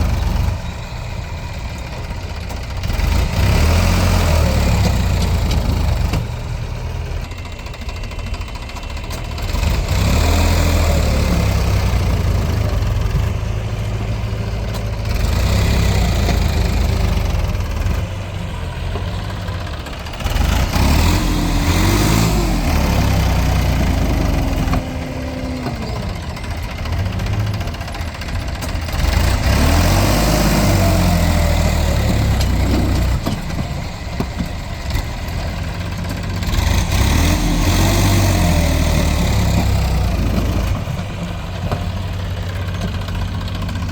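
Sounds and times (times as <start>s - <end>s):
vehicle engine revving: 2.8s - 7.0s, 9.0s - 43.9s.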